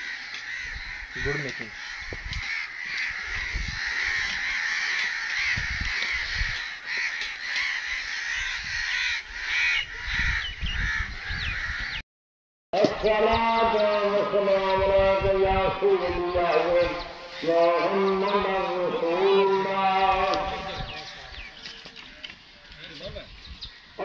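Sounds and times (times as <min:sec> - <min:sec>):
crows cawing: 0:00.0 - 0:12.0, 0:15.8 - 0:23.1.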